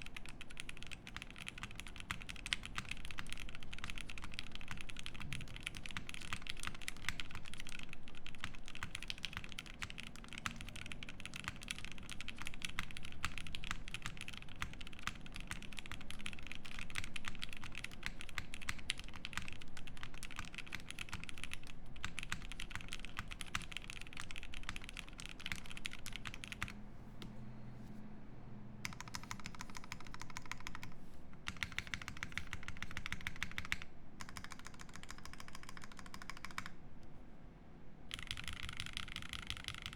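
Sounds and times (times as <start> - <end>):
mechanical keyboard typing: 0.0 - 26.8, 28.8 - 36.8, 38.1 - 39.9.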